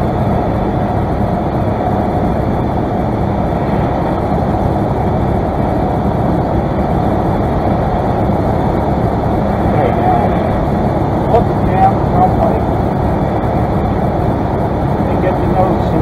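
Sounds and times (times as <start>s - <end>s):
airplane engine drone: 0.0s - 16.0s
rushing air in cockpit: 0.0s - 16.0s.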